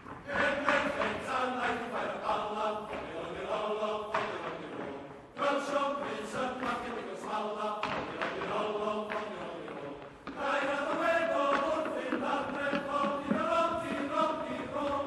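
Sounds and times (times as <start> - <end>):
male voice choir singing: 0.2 - 15.0.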